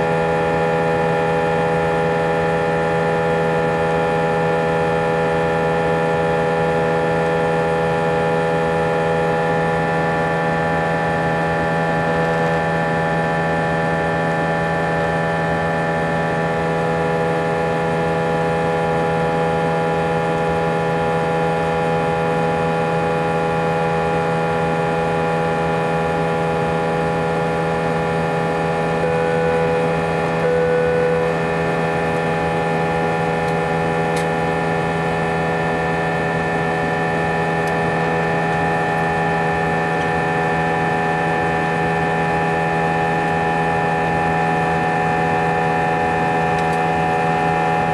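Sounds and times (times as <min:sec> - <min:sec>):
jet engine cabin drone: 0:00.0 - 0:47.9.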